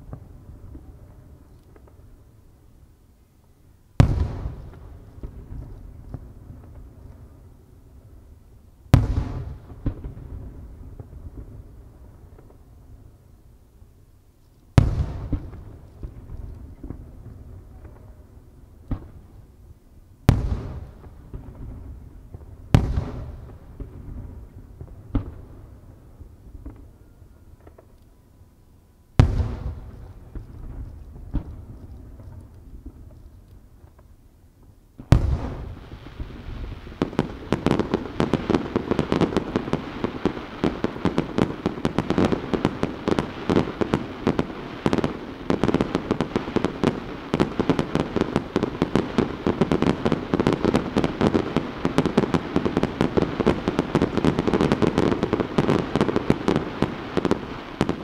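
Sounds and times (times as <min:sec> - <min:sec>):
small fireworks popping and crackling: 0:00.0 - 0:58.0.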